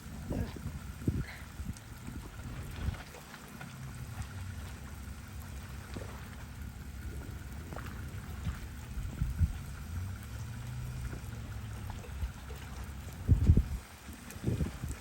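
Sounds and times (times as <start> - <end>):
low rumble: 0.0 - 15.0
rain: 0.0 - 15.0
running water: 0.0 - 15.0.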